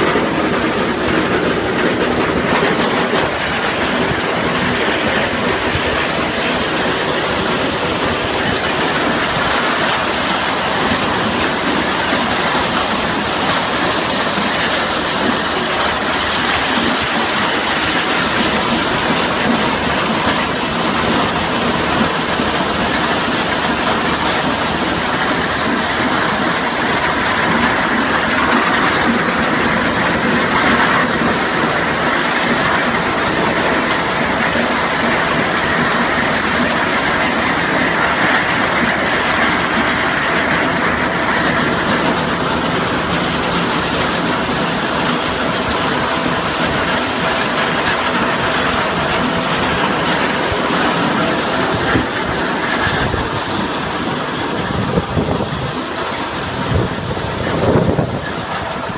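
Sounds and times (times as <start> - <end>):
harvester conveyors clattering: 0.0 - 58.9.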